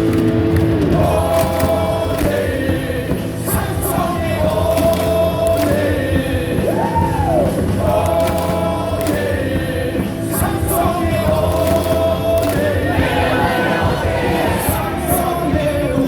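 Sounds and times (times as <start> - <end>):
crowd singing along: 0.0 - 16.0
music over loudspeakers: 0.0 - 16.0.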